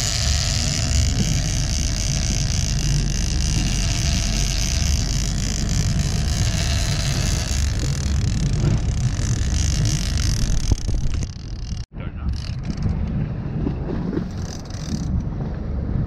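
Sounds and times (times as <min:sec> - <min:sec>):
boat motor running: 0:00.0 - 0:16.0
wind buffeting microphone: 0:00.0 - 0:16.0.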